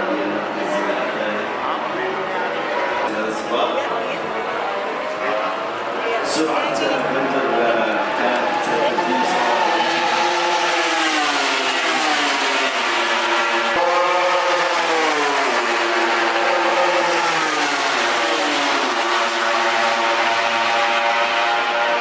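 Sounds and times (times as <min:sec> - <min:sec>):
racing motorcycle engine revving: 0:03.8 - 0:22.0.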